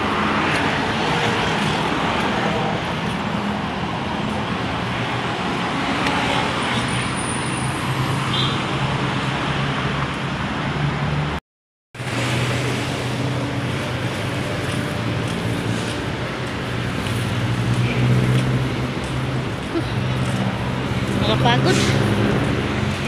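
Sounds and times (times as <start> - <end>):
cars passing: 0.0 - 11.4, 12.0 - 23.0.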